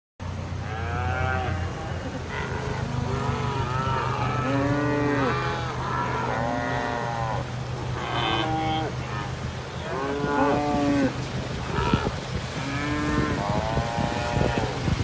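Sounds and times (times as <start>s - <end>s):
cattle mooing: 0.6s - 14.8s.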